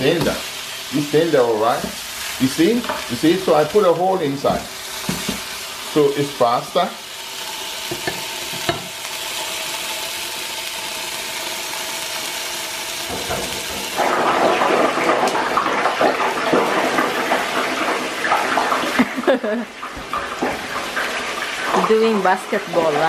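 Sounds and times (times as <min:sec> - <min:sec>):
steaks sizzling in a frying pan: 0:00.0 - 0:23.0.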